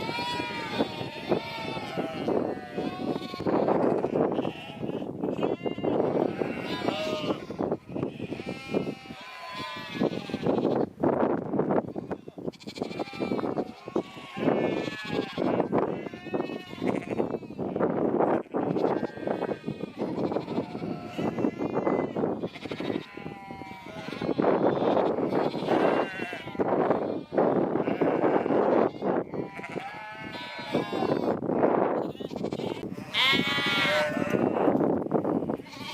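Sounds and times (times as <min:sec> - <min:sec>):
sheep bleating: 0:00.0 - 0:10.9, 0:12.0 - 0:31.4, 0:32.0 - 0:34.7, 0:35.6 - 0:35.9.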